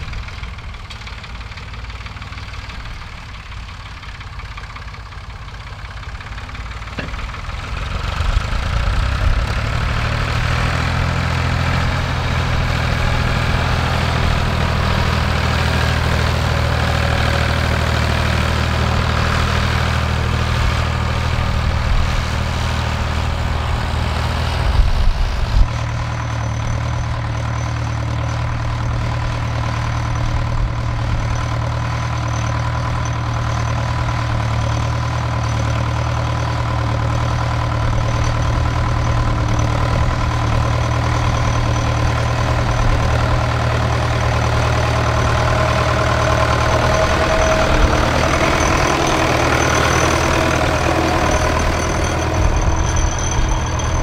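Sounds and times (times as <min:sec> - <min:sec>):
tractor engines running under load: 0:00.0 - 0:54.0.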